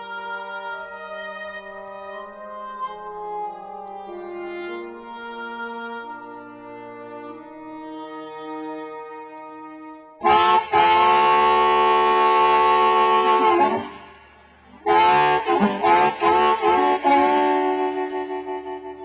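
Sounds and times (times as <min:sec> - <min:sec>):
reedy harmonica-like chords: 0:00.0 - 0:19.0.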